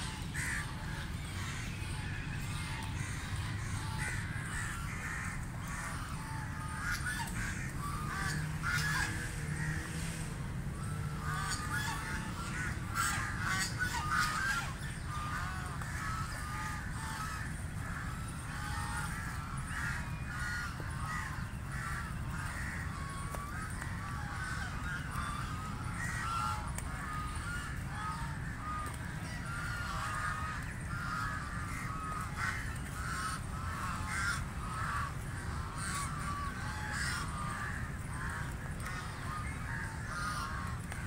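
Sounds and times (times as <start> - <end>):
ducks quacking: 0.0 - 41.0.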